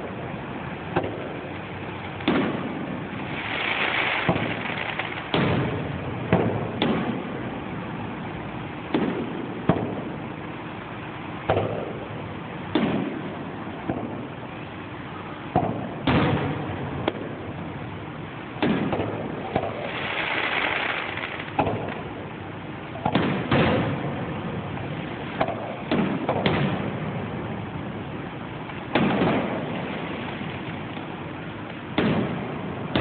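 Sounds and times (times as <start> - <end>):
fireworks booming: 0.0 - 33.0
fireworks hissing and crackling: 0.0 - 33.0.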